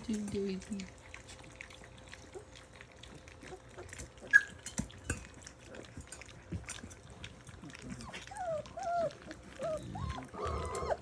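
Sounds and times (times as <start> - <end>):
puppies lapping wet food: 0.0 - 11.0.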